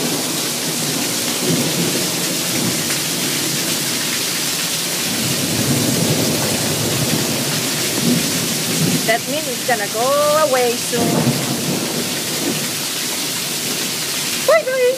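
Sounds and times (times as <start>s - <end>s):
heavy rain hissing: 0.0s - 14.9s
water pouring off roof edge: 0.0s - 14.9s.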